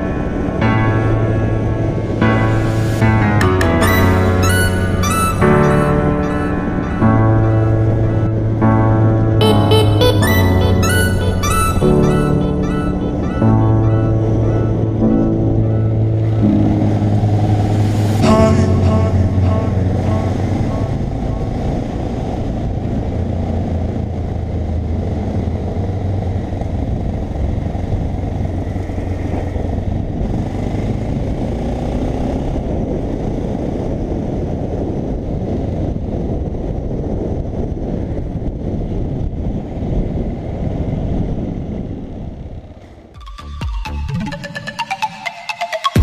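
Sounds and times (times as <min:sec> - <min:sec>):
wind rush on camera: 0:00.0 - 0:09.4, 0:11.9 - 0:43.2.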